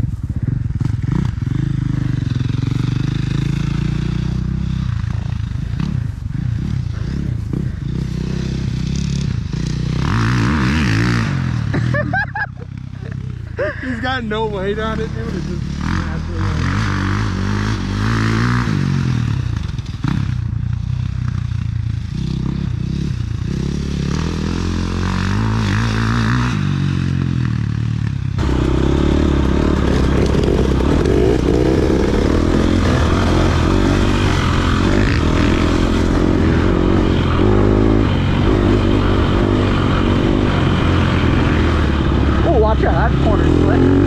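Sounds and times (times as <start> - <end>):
dirt bike engine revving: 0.7 - 44.0.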